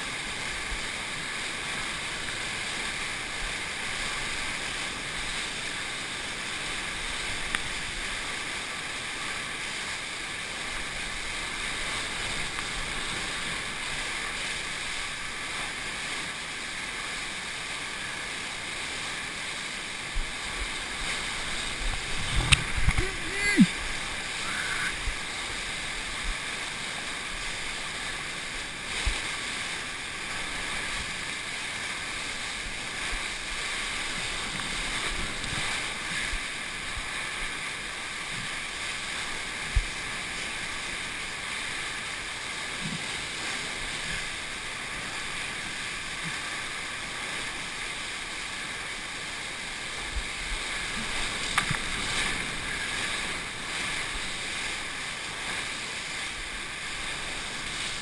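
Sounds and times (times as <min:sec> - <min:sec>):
whitewater rushing: 0:00.0 - 0:58.0.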